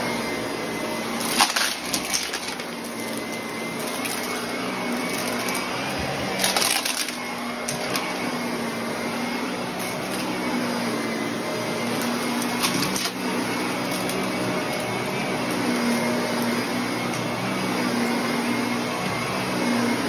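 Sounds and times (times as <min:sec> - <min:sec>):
vacuum cleaner running on carpet: 0:00.0 - 0:20.0.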